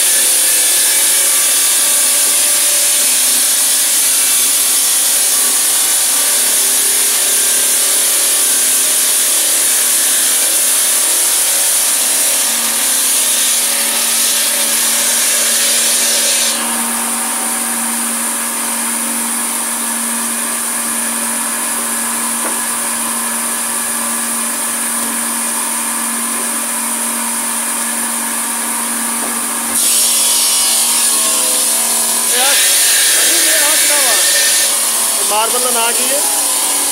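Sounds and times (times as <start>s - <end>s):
circular saw cutting marble: 0.0s - 36.9s.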